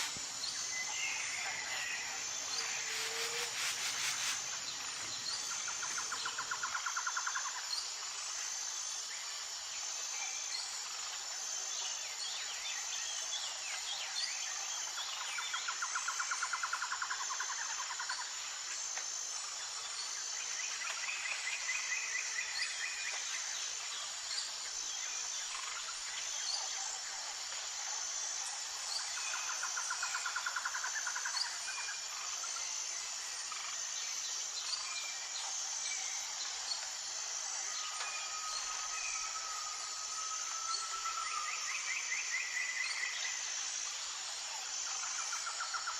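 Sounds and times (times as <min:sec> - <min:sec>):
high-pitched insect drone: 0:00.0 - 0:45.9
rapid pulsing insect trills: 0:00.0 - 0:45.9.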